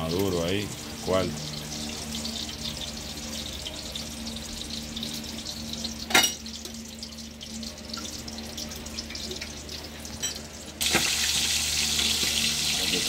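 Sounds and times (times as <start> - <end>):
hot oil crackling in a frying pan: 0.0 - 13.0.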